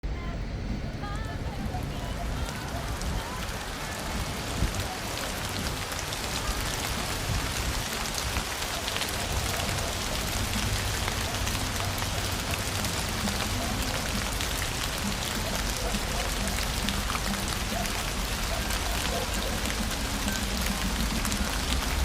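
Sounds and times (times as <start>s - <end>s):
rain pattering on hard surfaces: 0.5s - 22.0s.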